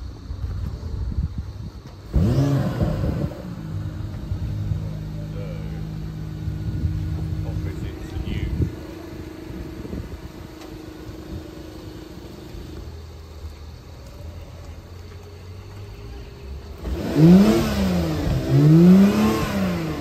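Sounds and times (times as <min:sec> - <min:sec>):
car engine humming and revving: 0:00.0 - 0:20.0.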